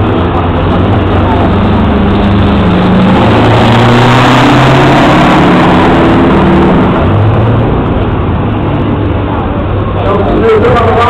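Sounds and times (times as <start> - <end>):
truck diesel engine accelerating: 0.0 - 11.0.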